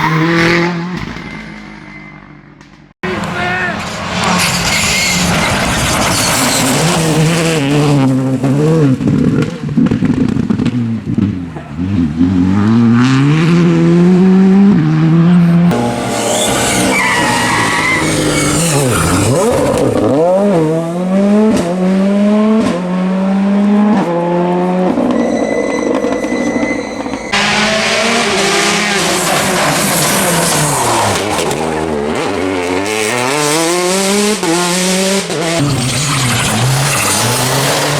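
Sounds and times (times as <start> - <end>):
rally car engines accelerating: 3.0 - 37.9.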